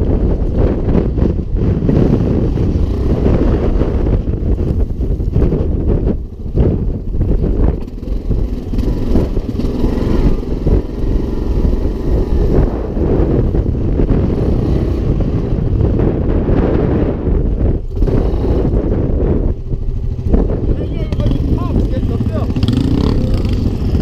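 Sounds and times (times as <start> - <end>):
quad engine running: 0.0 - 24.0
wind buffeting microphone: 0.0 - 24.0.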